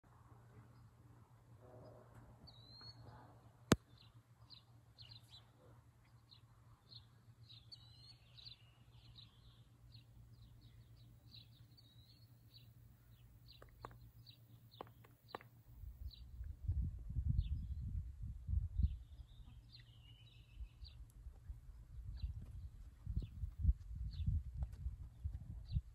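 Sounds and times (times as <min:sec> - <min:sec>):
small birds chirping: 0:01.8 - 0:18.0, 0:18.8 - 0:25.9.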